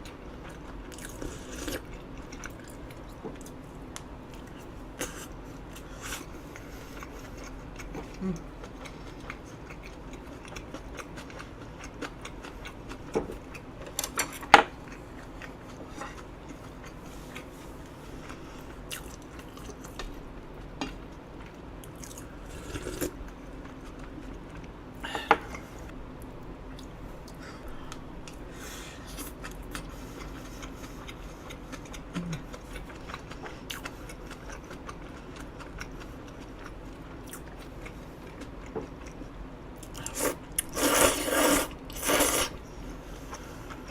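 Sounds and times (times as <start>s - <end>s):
chewing: 0.0s - 24.7s, 29.1s - 42.5s.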